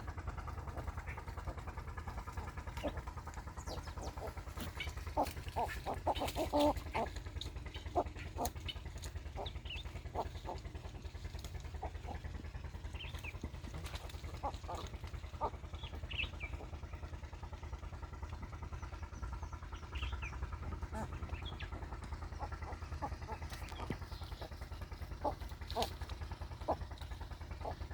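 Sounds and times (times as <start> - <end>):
farmyard birds chirping: 0.0 - 27.9
low engine-like rumble: 0.0 - 27.9.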